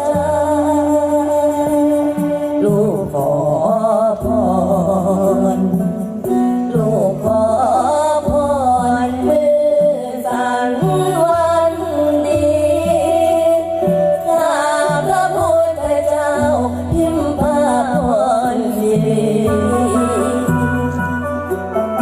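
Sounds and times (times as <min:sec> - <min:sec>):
woman singing ornamented melody: 0:00.0 - 0:06.0, 0:06.6 - 0:22.0.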